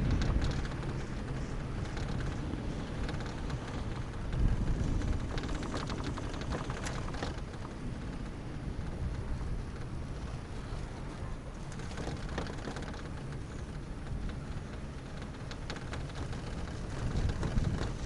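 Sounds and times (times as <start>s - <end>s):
chairlift running rumble: 0.0s - 18.0s
faint rattling clicks: 0.0s - 18.0s
wind on microphone: 0.0s - 18.0s.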